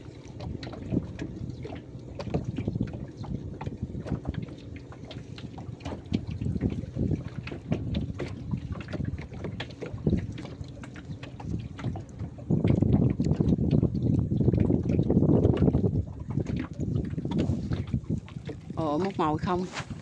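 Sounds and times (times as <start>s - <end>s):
water splashing against boat hull: 0.0s - 20.0s
wind on microphone: 0.0s - 20.0s.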